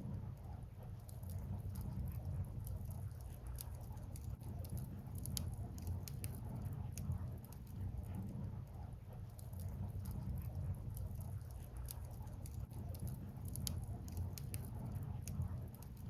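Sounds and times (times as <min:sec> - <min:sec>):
firewood crackling: 0:01.0 - 0:08.1, 0:09.3 - 0:16.0.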